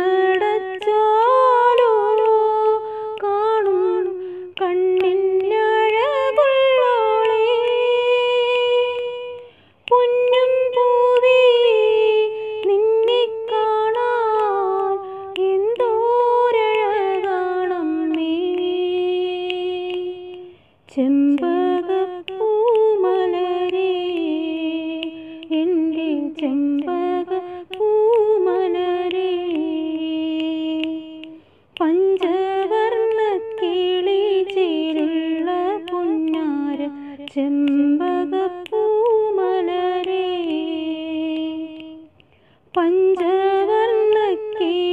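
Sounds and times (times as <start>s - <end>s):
woman singing unaccompanied: 0.0s - 44.9s.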